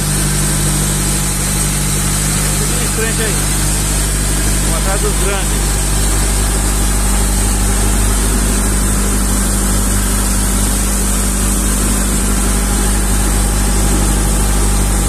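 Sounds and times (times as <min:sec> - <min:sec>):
boat engine droning: 0:00.0 - 0:15.0
water rushing from wake: 0:00.0 - 0:15.0.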